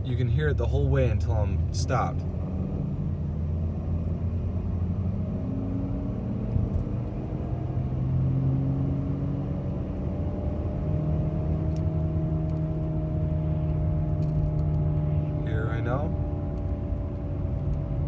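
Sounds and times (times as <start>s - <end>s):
car cabin rumble and drone: 0.0s - 18.0s.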